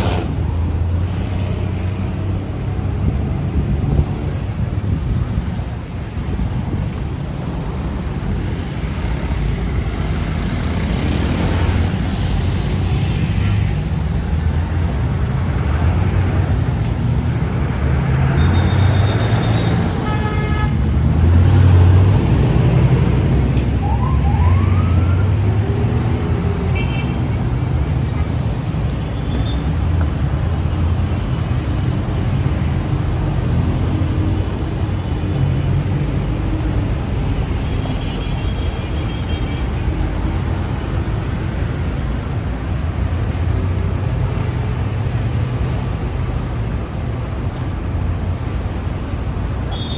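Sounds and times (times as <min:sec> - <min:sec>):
city road traffic rumble: 0:00.0 - 0:49.9.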